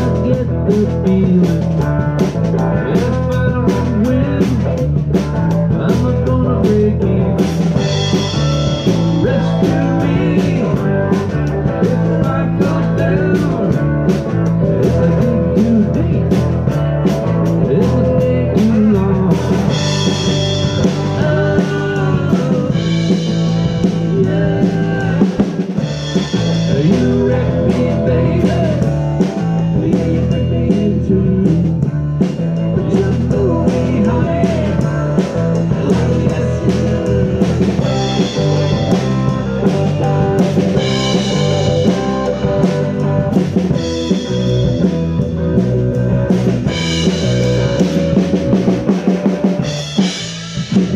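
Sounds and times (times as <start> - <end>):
bass guitar: 0.0 - 50.9
drum kit with cymbals: 0.0 - 50.9
electric guitar lines: 0.0 - 50.9.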